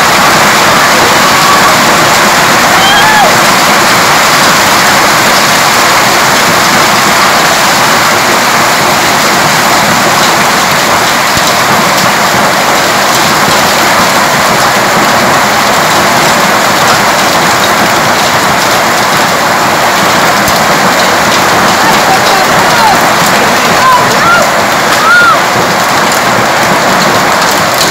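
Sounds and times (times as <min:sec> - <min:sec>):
hail and rain falling hard: 0:00.0 - 0:27.9.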